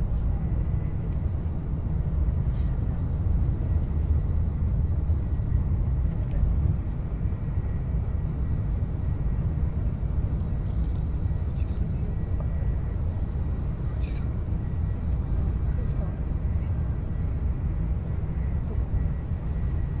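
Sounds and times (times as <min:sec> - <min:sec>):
train cabin low rumble: 0:00.0 - 0:20.0.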